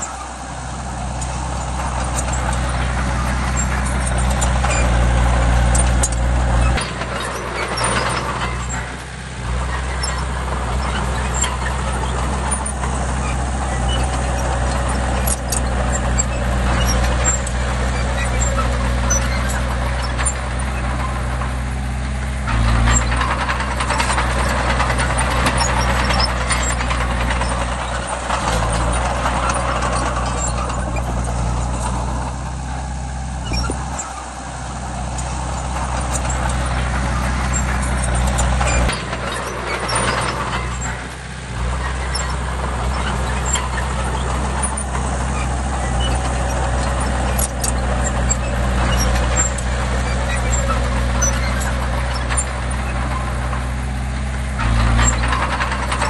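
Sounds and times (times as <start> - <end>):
bulldozer diesel engine running: 0.0 - 56.0
clattering and hissing: 0.0 - 56.0.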